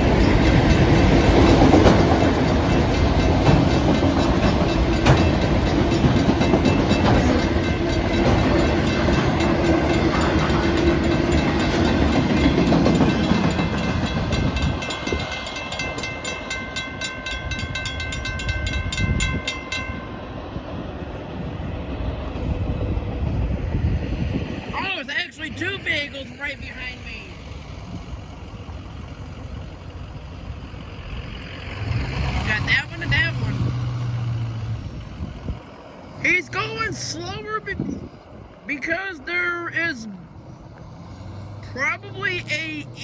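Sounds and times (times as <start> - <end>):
freight train rolling past: 0.0 - 43.0
railcars clicking over rail joints: 0.0 - 43.0.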